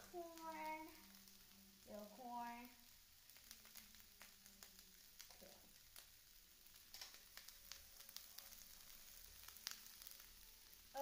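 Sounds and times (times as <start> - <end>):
hot oil popping and crackling: 0.0 - 11.0
vegetables sizzling in oil: 0.0 - 11.0.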